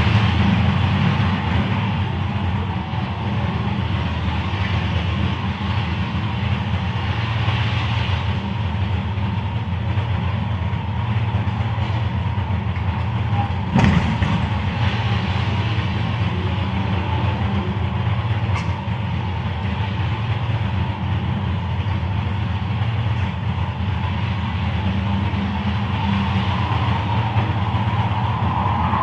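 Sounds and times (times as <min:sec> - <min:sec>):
low mechanical rumble: 0:00.0 - 0:29.0.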